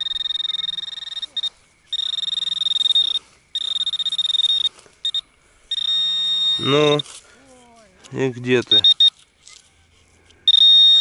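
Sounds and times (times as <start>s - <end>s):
metal detector beeping: 0.0s - 7.2s, 8.5s - 9.6s, 10.4s - 11.0s.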